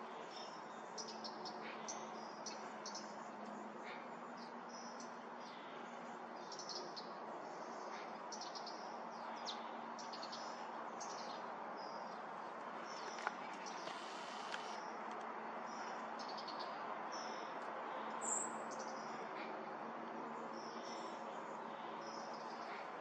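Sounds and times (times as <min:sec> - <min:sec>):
steady background noise: 0:00.0 - 0:23.0
small birds chirping: 0:00.1 - 0:19.5.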